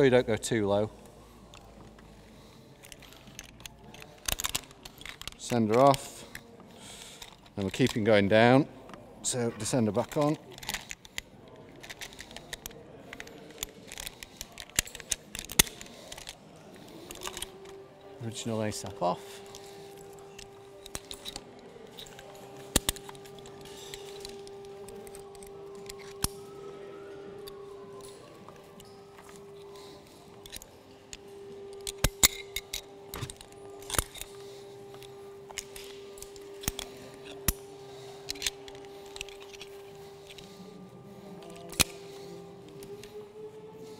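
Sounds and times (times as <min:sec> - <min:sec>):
metal carabiners clicking and clinking: 0:00.0 - 0:43.9
steady low hum: 0:00.0 - 0:43.9.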